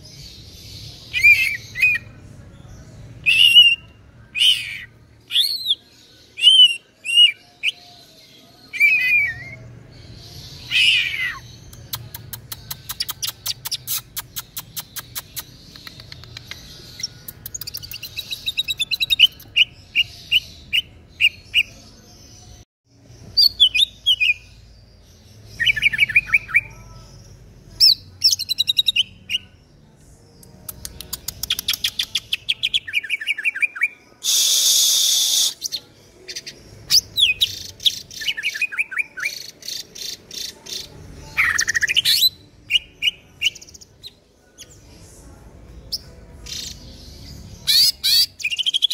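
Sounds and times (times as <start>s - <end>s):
bird singing: 0.0s - 48.9s.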